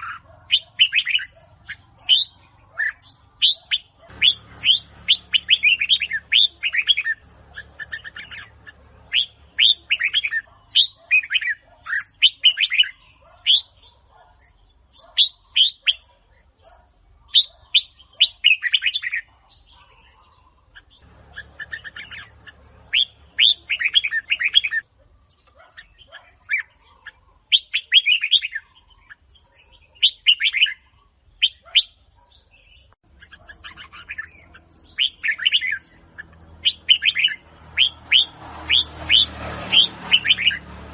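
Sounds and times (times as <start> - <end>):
bird singing bright notes: 0.0 - 16.1, 17.3 - 40.7.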